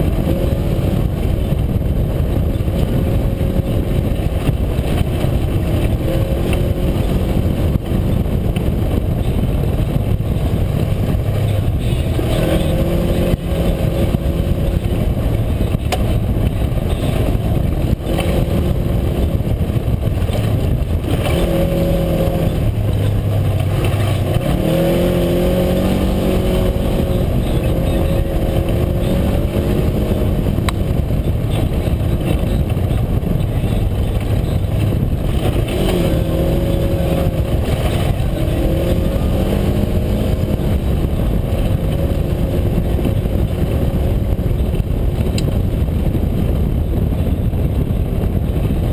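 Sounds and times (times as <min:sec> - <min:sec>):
utility vehicle engine revving: 0:00.0 - 0:48.9.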